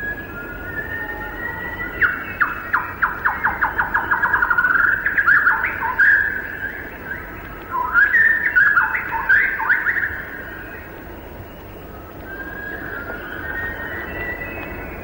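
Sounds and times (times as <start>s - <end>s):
bird singing whistled phrases: 0.0s - 10.8s, 12.2s - 15.0s.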